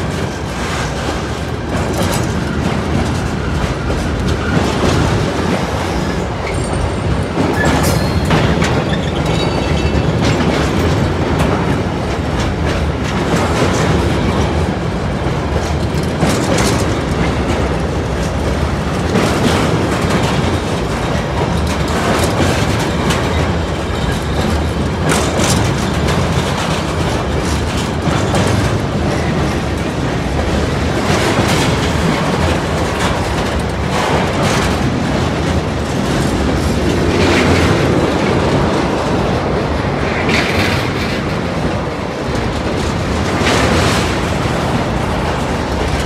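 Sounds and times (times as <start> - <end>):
train wheels clattering over rails: 0.0 - 46.0.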